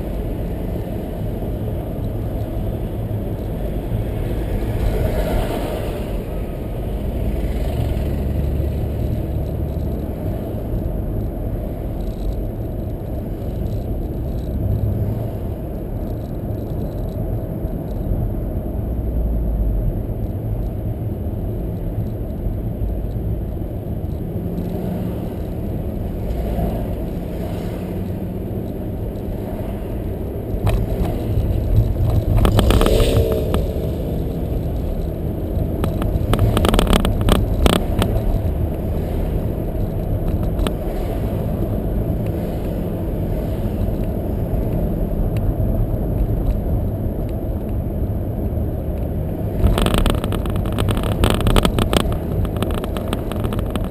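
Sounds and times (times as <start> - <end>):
car engine and tyre rumble: 0.0 - 53.9.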